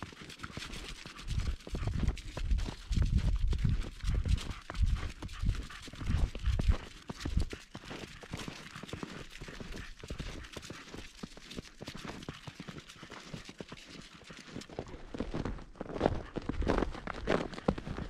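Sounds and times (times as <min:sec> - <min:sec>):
footsteps crunching in snow: 0:00.1 - 0:18.0.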